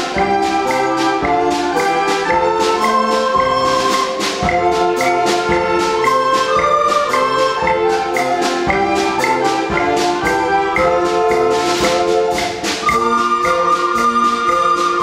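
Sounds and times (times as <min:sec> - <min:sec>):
recorder ensemble playing: 0:00.0 - 0:15.0.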